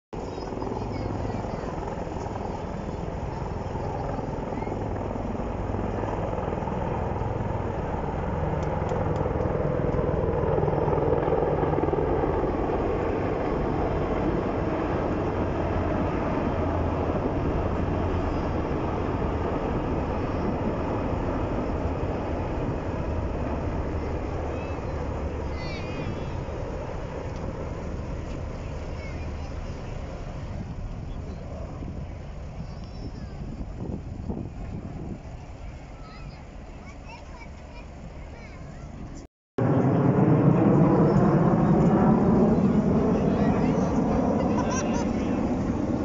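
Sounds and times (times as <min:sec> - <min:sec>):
helicopters flying over: 0:00.2 - 0:46.0.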